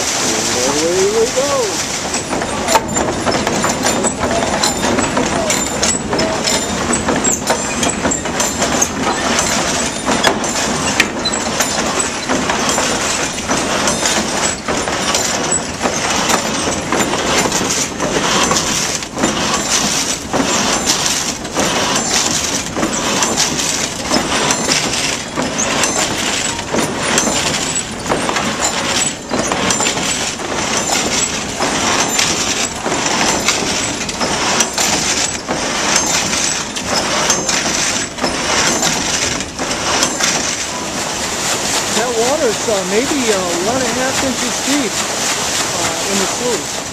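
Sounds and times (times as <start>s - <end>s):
clatter of wooden mill works: 0.0s - 46.9s.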